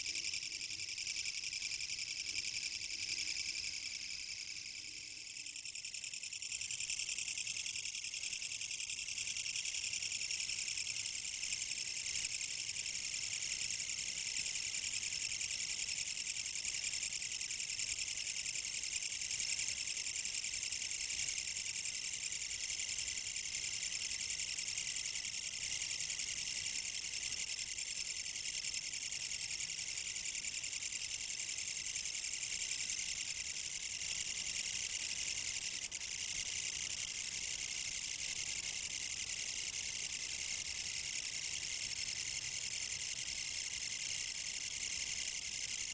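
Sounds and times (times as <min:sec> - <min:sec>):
katydid rattling buzz: 0:00.0 - 0:19.8, 0:20.4 - 0:45.9.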